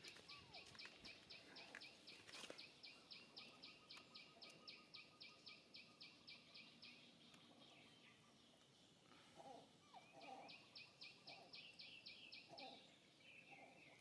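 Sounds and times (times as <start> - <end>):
faint bird calls: 0.0 - 14.0.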